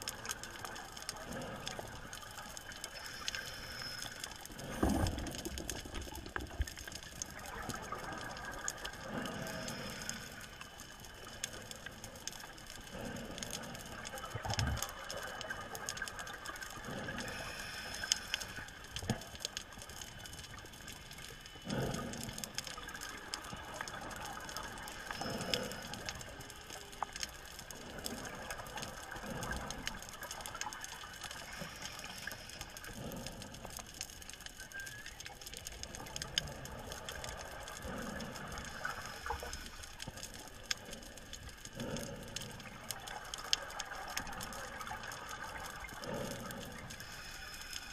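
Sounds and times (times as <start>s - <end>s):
diver breathing and bubbles: 0.0s - 47.9s
faint clicks: 0.0s - 47.9s
muffled underwater water noise: 0.0s - 47.9s.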